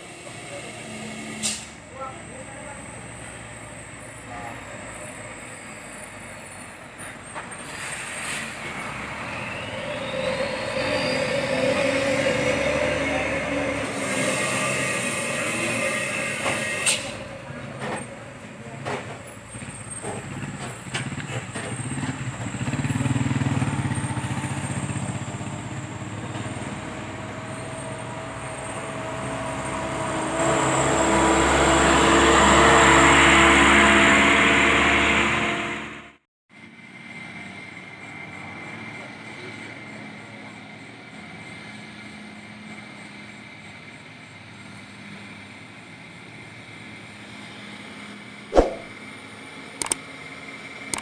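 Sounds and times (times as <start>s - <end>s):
heavy truck with loud exhaust: 0.0s - 51.0s.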